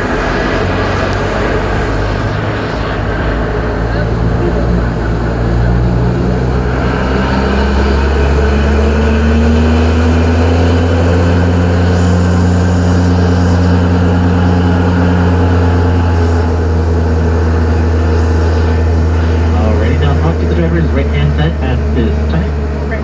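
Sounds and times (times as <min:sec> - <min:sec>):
tram engine droning: 0:00.0 - 0:23.0.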